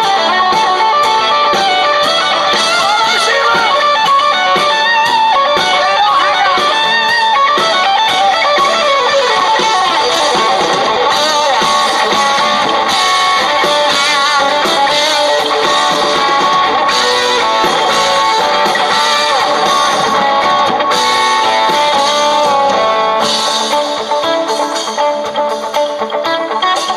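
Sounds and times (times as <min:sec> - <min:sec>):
live band instrumental guitars: 0:00.0 - 0:26.9.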